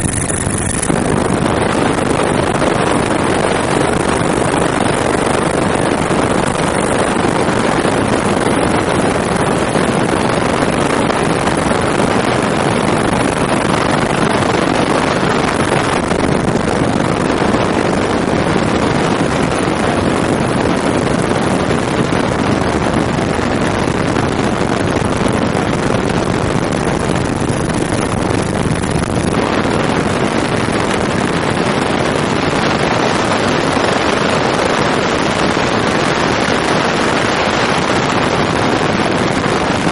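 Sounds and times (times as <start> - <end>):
helicopter engine and rotor: 0.0 - 39.9
wind over microphone: 0.0 - 39.9.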